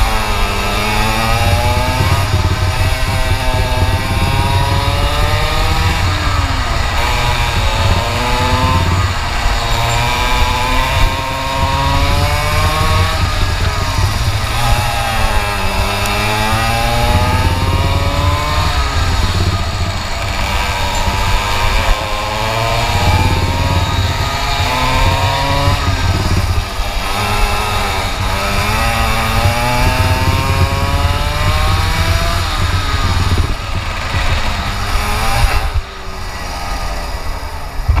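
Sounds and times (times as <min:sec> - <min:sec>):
two-stroke kart engine racing: 0:00.0 - 0:38.0.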